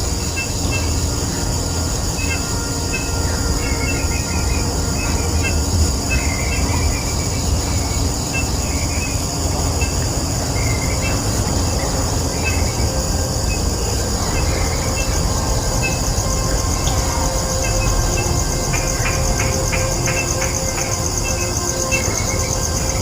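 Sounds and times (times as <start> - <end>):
high insect drone: 0.0 - 23.0
low wind rumble on microphone: 0.0 - 23.0.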